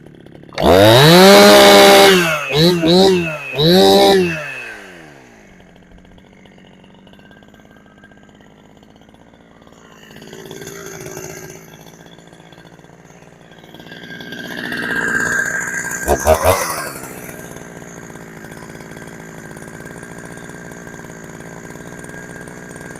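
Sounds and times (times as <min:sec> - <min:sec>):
chainsaw engine idling: 0:00.0 - 0:22.9.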